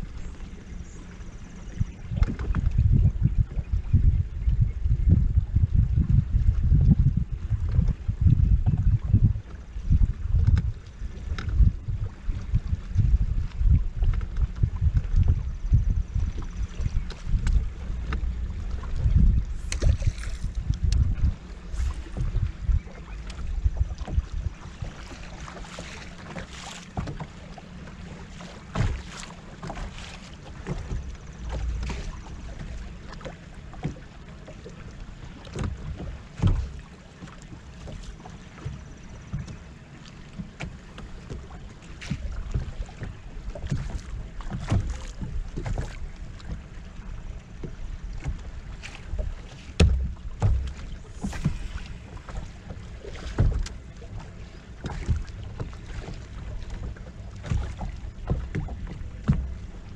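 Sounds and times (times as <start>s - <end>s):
water slapping boat hull: 0.0s - 59.9s
wind rumble on microphone: 0.0s - 59.9s.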